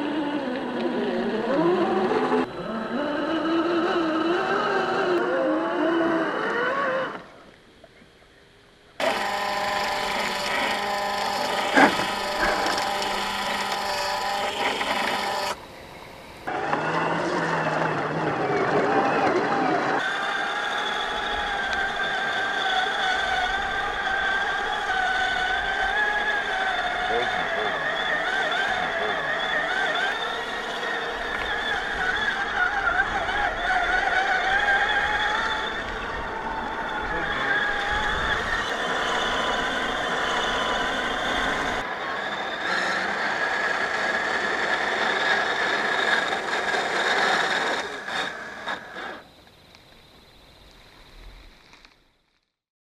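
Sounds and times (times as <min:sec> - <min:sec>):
electric motor and gearbox whining: 0:00.0 - 0:07.8, 0:09.0 - 0:52.4.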